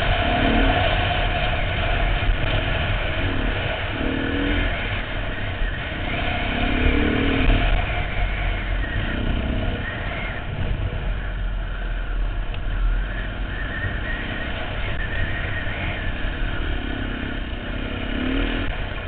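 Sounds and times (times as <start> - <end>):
dirt bike engine revving: 0.0 - 11.4, 12.9 - 19.0
wind rumble on microphone: 0.0 - 19.0.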